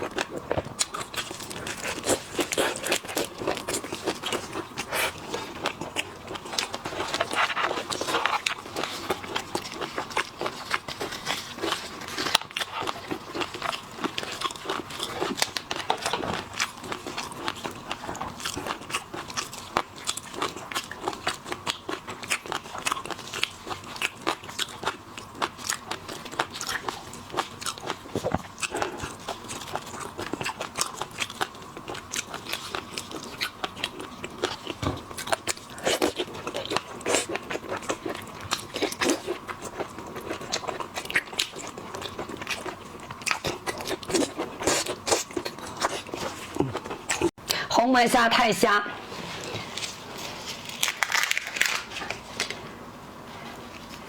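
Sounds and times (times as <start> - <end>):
biting and chewing seafood: 0.0 - 47.6, 49.4 - 52.6.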